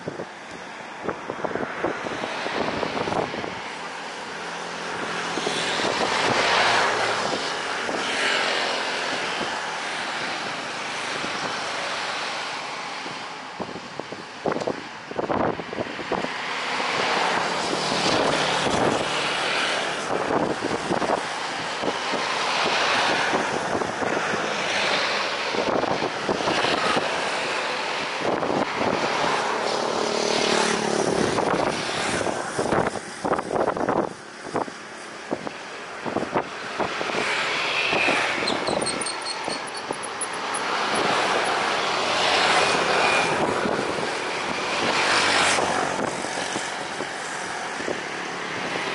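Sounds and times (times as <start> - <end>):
road traffic passing: 0.0 - 48.9
wind buffeting microphone: 0.0 - 48.9.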